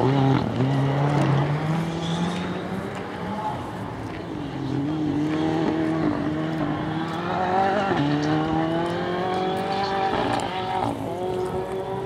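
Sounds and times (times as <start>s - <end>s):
rally car engine accelerating: 0.0s - 3.6s, 4.6s - 12.0s.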